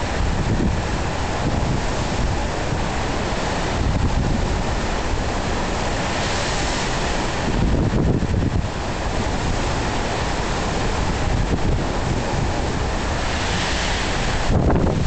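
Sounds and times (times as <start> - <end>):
waves rushing on a river: 0.0 - 15.0
wind blowing across microphone: 0.0 - 15.0.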